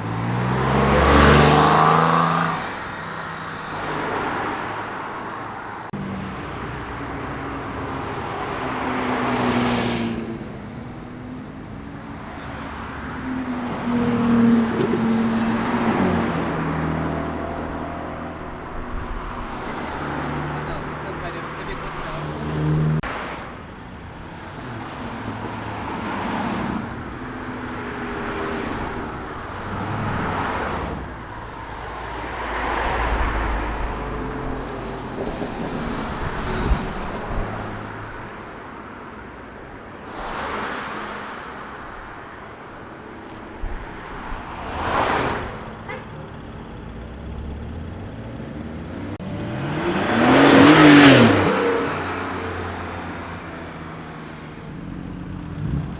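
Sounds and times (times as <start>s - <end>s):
cars driving past: 0.0s - 55.9s.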